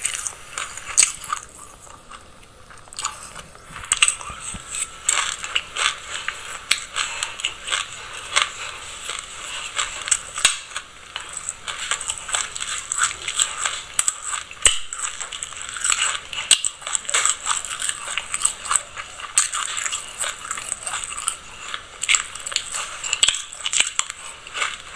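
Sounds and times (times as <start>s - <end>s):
crunchy chewing of seeds: 0.0s - 24.9s.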